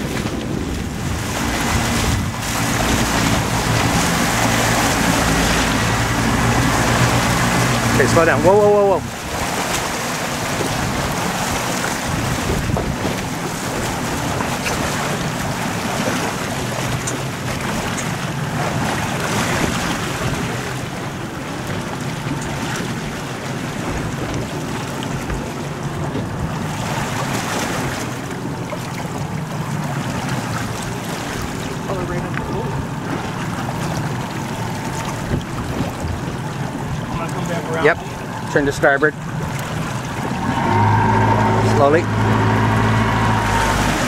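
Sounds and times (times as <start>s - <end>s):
powerboat engine running: 0.0s - 44.0s
water churning: 0.0s - 44.0s
wind buffeting microphone: 0.0s - 44.0s.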